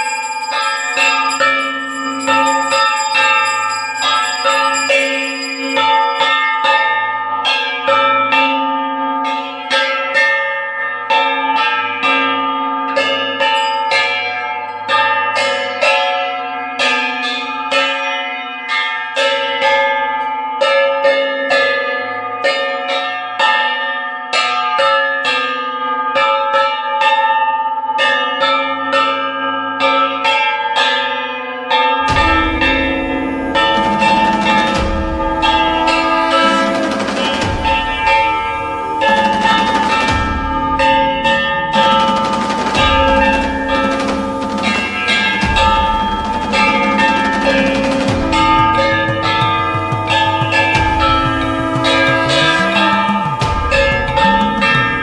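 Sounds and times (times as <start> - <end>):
bells ringing: 0.0 - 55.0.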